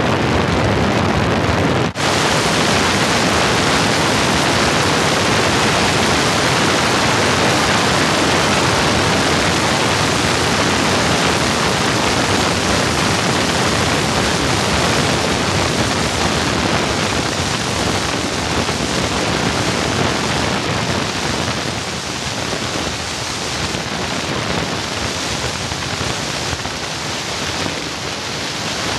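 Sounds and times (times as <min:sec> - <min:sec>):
wind and propeller blast: 0:00.0 - 0:28.9.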